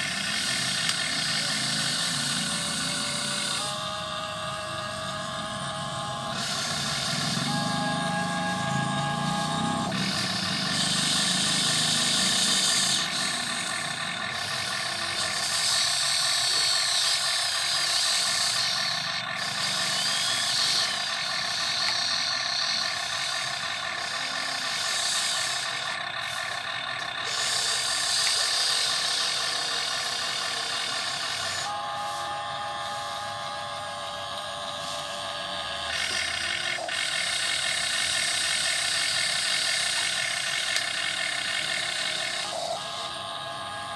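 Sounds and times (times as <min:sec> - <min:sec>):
electric motors whining: 0:00.0 - 0:43.9.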